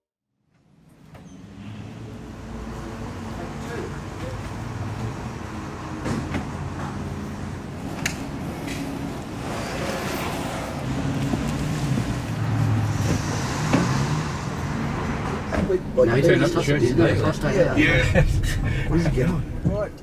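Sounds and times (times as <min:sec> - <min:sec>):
road traffic rumble: 0:00.6 - 0:20.0.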